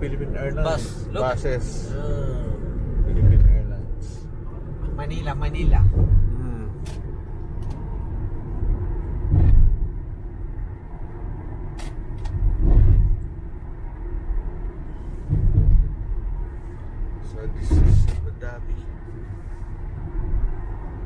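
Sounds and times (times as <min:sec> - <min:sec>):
car road rumble: 0:00.0 - 0:21.0.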